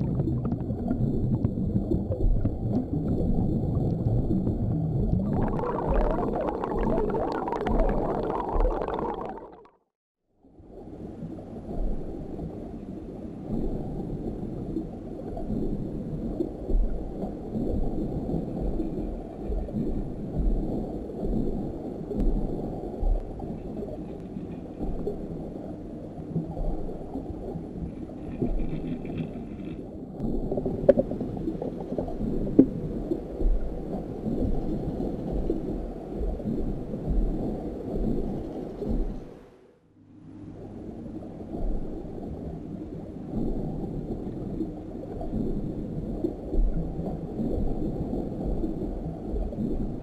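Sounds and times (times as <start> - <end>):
muffled underwater water rumble: 0.0 - 50.0.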